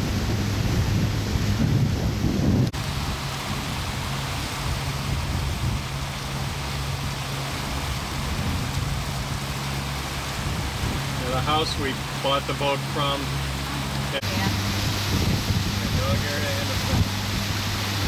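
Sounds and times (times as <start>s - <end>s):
low boat motor hum: 0.0s - 18.0s
wind and water rushing: 0.0s - 18.0s.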